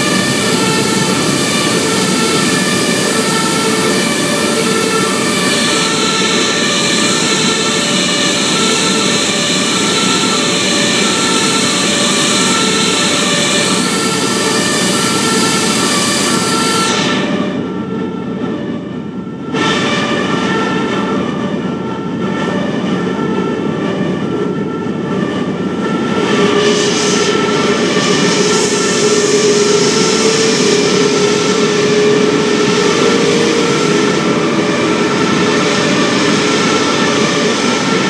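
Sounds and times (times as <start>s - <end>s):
jet engine rush: 0.0s - 17.6s, 24.6s - 38.0s
jet engines whining: 0.0s - 38.0s.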